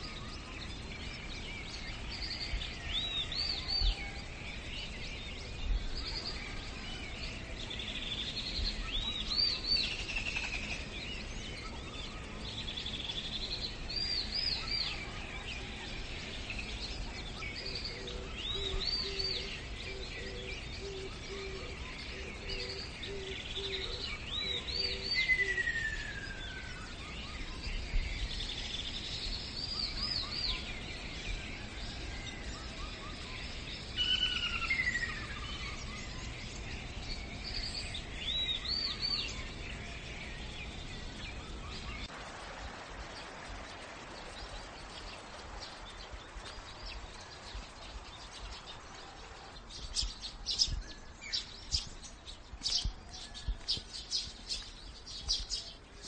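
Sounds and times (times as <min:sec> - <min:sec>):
birds chirping: 0:00.0 - 0:56.0
outdoor hiss: 0:00.0 - 0:56.0.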